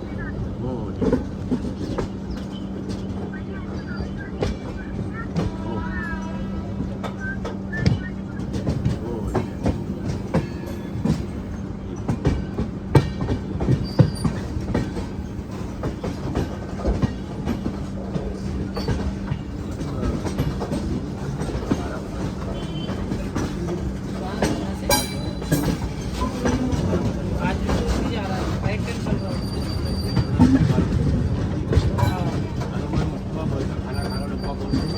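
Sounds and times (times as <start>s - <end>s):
wheels clattering over rail joints: 6.9s - 34.9s.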